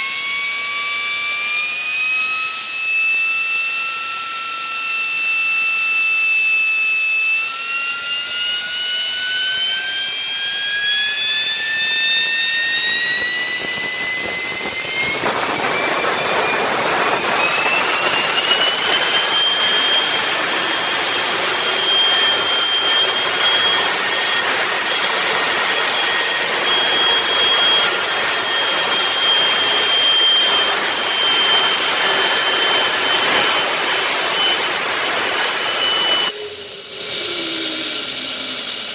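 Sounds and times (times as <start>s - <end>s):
jet engine model whine: 0.0s - 38.9s.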